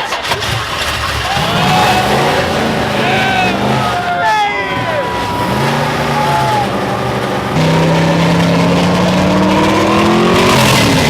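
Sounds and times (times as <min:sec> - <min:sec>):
car engine revving: 0:00.3 - 0:11.0
loud general din: 0:00.8 - 0:11.0.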